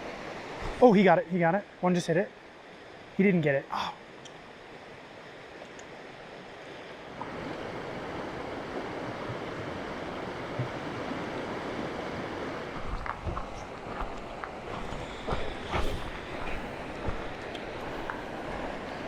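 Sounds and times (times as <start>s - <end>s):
rushing river water: 0.0s - 19.0s.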